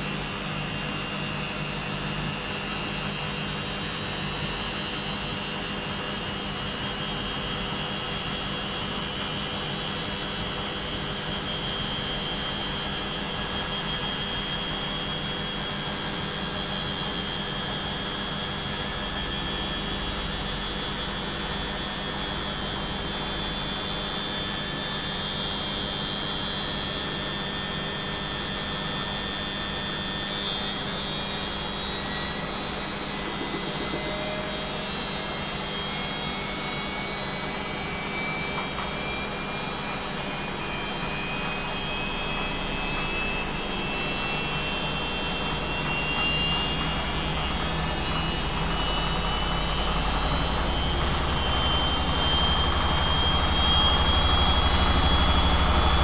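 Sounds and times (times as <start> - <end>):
washing machine low rumble: 0.0 - 56.0
washing machine motor whine: 0.0 - 56.0.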